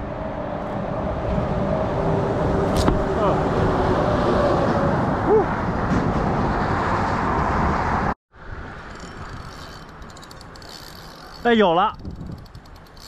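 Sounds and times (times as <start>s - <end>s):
traffic road noise on bridge: 0.0s - 13.0s.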